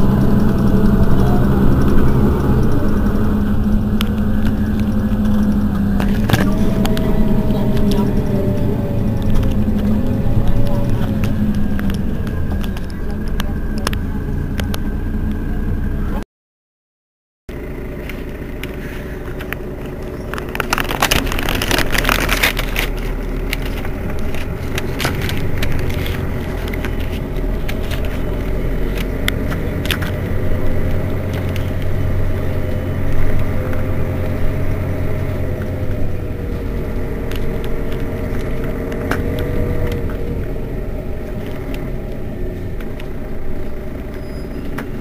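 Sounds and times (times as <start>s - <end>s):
bus engine humming: 0.0s - 16.2s, 17.5s - 45.0s.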